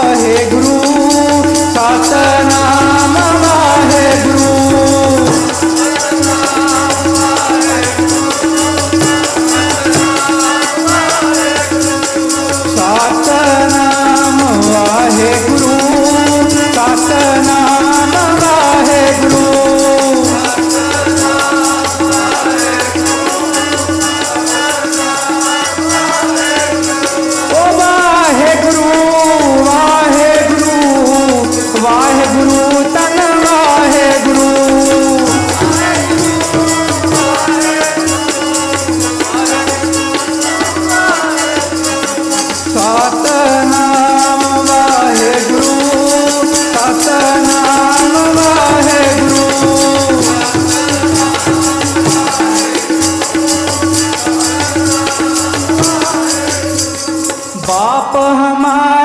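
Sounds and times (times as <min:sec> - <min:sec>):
metal tongs jingling rhythm: 0:00.0 - 0:58.9
harmonium drone: 0:00.0 - 0:59.0
person singing devotional song: 0:00.0 - 0:59.0.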